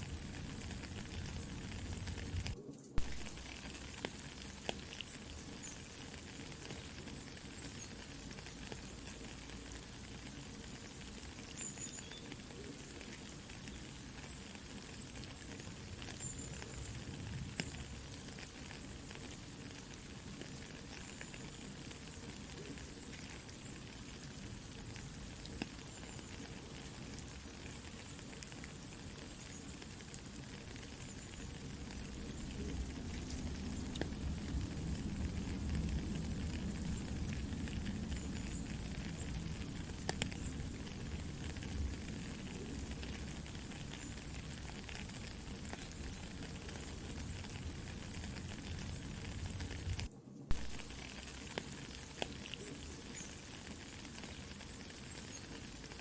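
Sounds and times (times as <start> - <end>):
campfire crackling: 0.0 - 56.0
soft steady rain: 0.0 - 56.0.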